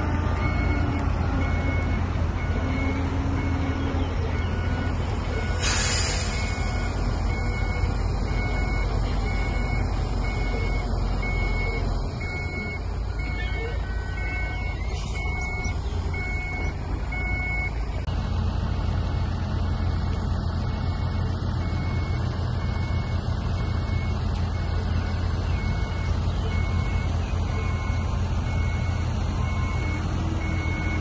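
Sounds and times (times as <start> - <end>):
reversing alarm beeping: 0.0 - 18.0, 20.6 - 31.0
diesel machinery rumbling: 0.0 - 31.0.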